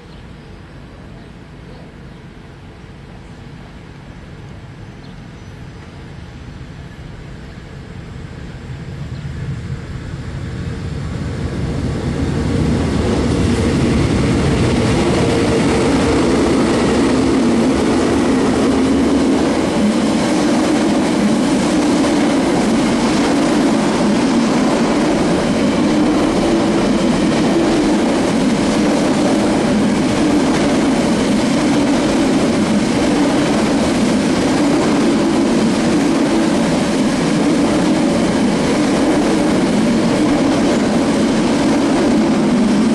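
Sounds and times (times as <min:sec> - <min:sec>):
train rolling past: 0:00.0 - 0:42.9.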